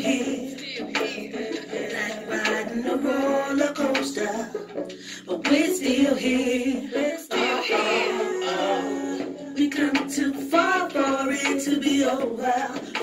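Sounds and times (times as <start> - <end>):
woman singing over music: 0.0 - 13.0.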